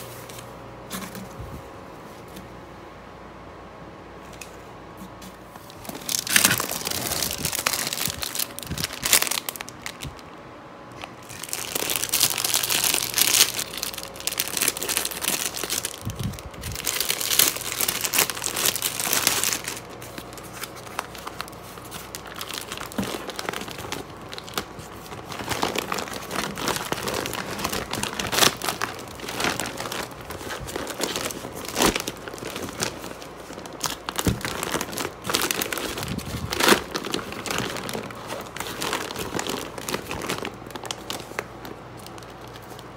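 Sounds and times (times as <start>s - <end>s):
plastic packaging crinkling: 5.5s - 42.9s.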